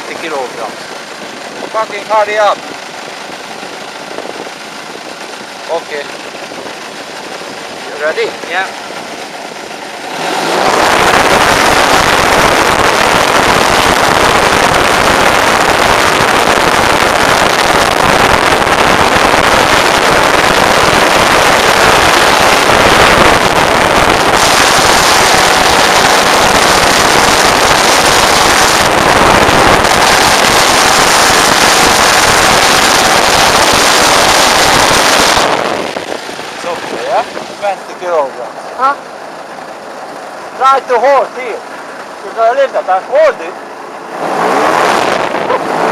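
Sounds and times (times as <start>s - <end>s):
model aircraft engine at full throttle: 0.0s - 45.9s.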